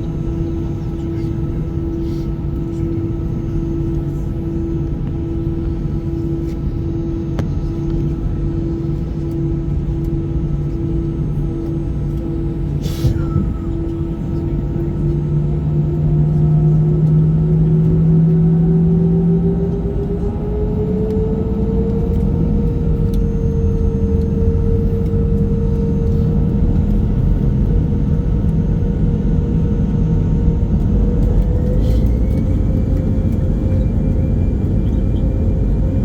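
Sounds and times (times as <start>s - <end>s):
jet engines running up: 0.0s - 36.0s.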